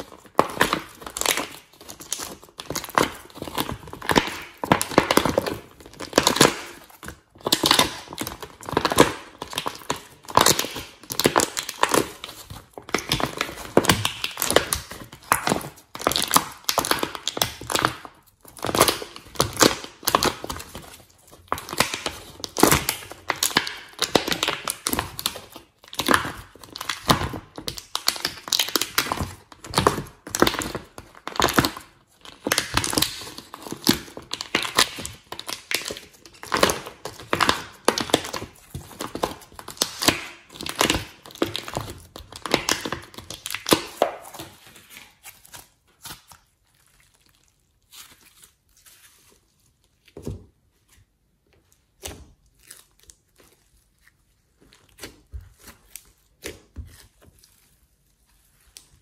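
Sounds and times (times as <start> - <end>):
slime squishing and popping: 0.0 - 48.3.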